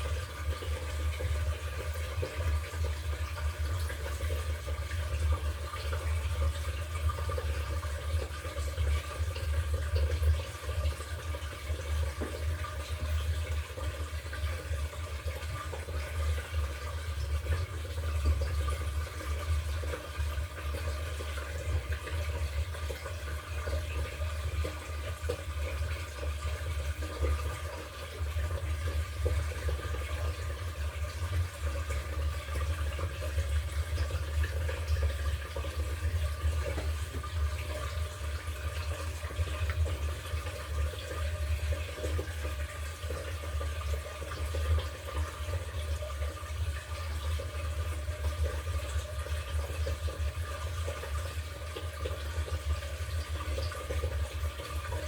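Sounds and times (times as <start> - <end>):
water churning in washing machine: 0.0 - 55.0.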